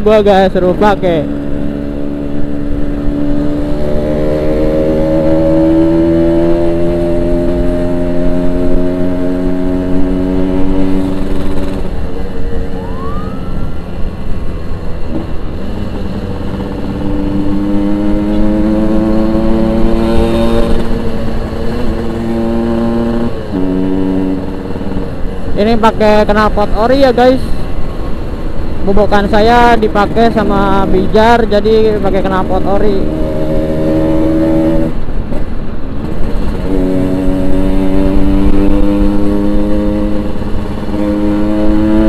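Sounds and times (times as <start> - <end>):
motorcycle engine accelerating: 0.4 - 42.0.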